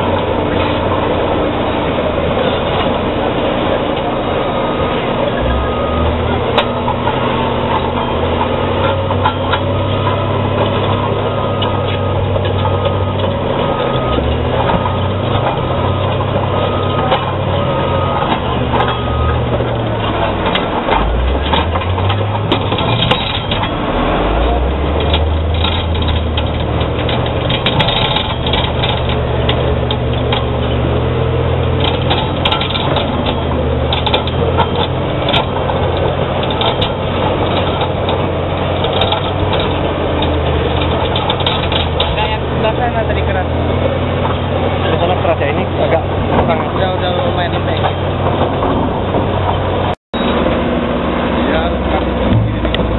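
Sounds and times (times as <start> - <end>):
bulldozer diesel engine under load: 0.0 - 52.9.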